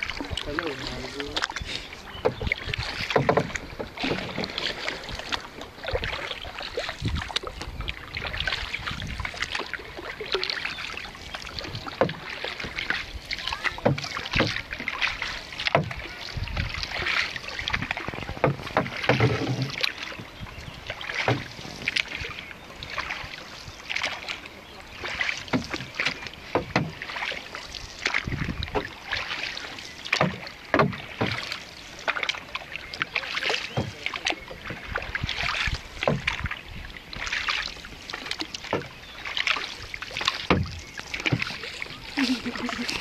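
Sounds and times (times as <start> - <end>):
paddles splashing in water: 0.0 - 43.0.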